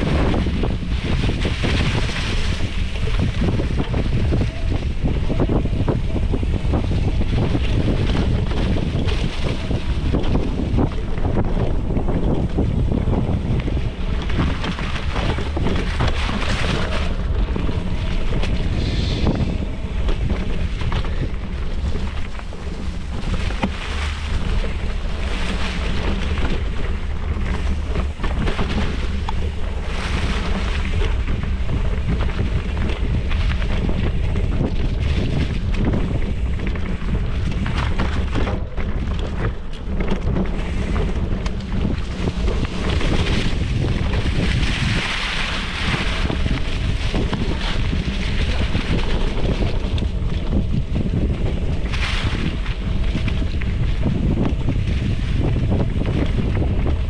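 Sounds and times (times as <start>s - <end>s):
bike knocks and rattles: 0.0s - 18.8s, 19.5s - 57.0s
tires rolling over dirt: 0.0s - 57.0s
wind buffeting microphone: 0.0s - 57.0s.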